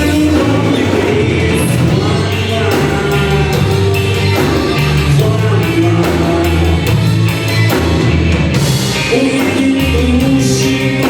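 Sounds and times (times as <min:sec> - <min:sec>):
drums steady beat: 0:00.0 - 0:11.0
live rock band playing: 0:00.0 - 0:11.0.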